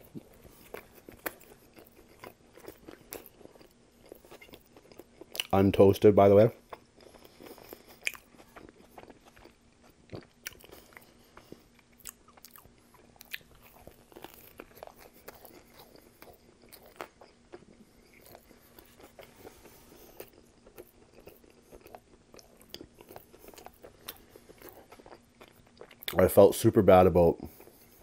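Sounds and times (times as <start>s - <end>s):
close chewing: 0.0s - 5.8s, 6.5s - 26.2s.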